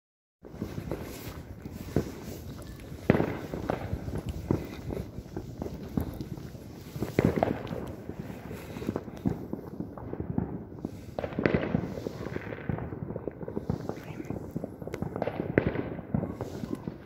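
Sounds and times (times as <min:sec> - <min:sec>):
fireworks and firecrackers banging: 0:00.4 - 0:17.0.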